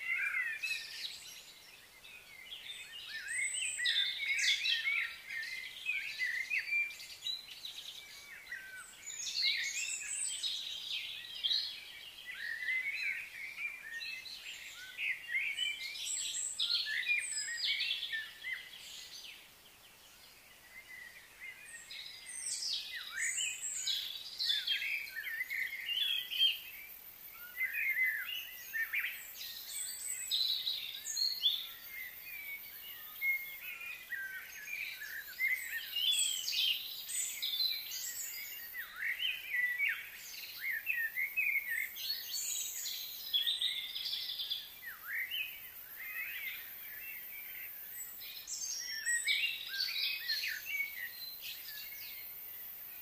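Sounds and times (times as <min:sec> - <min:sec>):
faint steady high hiss: 0:00.0 - 0:53.0
small birds chirping and singing: 0:00.0 - 0:53.0.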